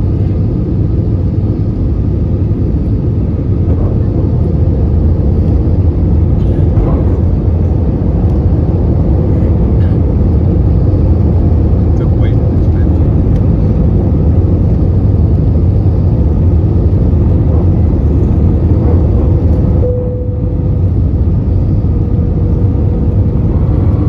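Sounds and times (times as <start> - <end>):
jet engines rumbling in cabin: 0.0 - 24.0
rushing air: 0.0 - 24.0.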